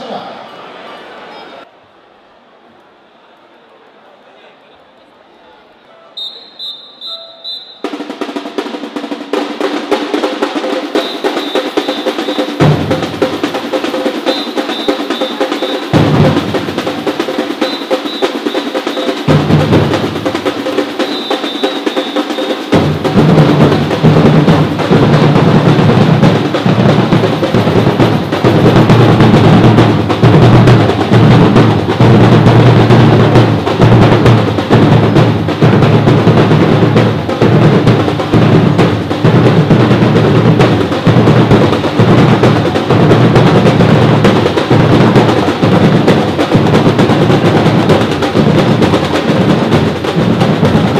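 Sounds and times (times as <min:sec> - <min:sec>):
snare drum rolls: 0:06.2 - 0:50.9
bass drums: 0:07.9 - 0:21.6, 0:22.7 - 0:50.9.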